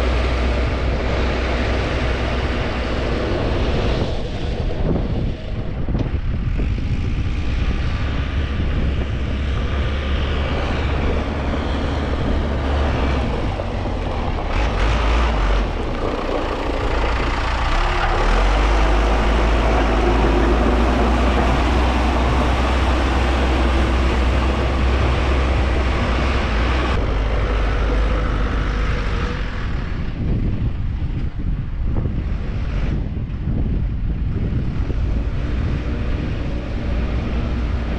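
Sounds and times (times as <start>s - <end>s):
heavy vehicle engine rumbling: 0.0s - 37.9s.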